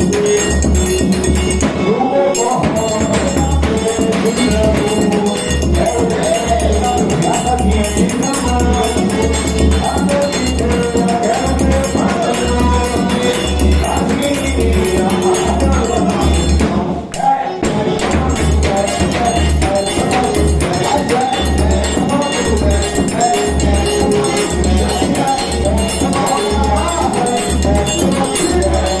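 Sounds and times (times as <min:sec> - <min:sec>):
jingling percussion: 0:00.0 - 0:29.0.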